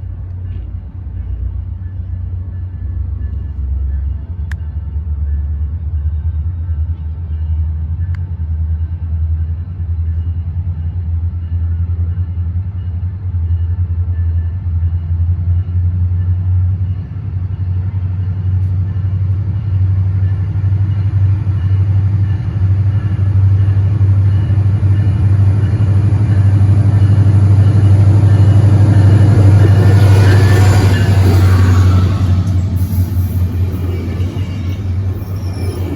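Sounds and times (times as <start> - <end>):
train rumbling: 0.0 - 35.9.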